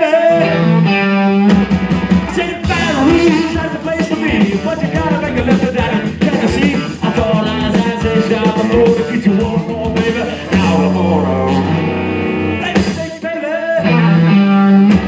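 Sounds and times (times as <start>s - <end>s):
distorted electric guitars: 0.0s - 15.0s
drum kit: 1.4s - 13.3s, 14.8s - 15.0s.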